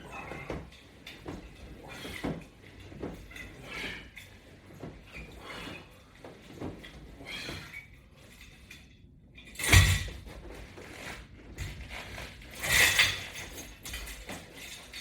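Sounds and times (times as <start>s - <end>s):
rustles and light knocks: 0.0s - 15.0s.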